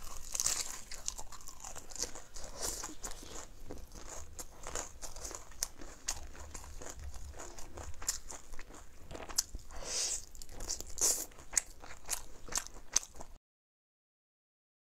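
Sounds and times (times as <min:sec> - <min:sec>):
person chewing meat off bone: 0:00.0 - 0:13.3.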